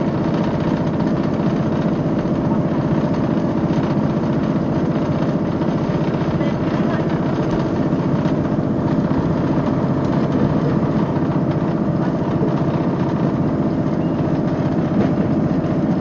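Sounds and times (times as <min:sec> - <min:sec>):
train diesel engine droning: 0:00.0 - 0:16.0.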